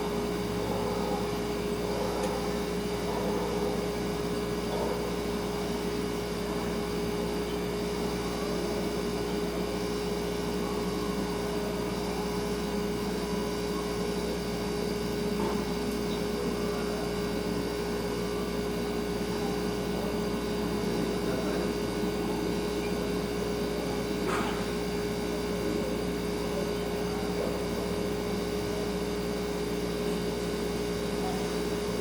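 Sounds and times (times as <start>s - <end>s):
refrigerator humming: 0.0s - 32.0s.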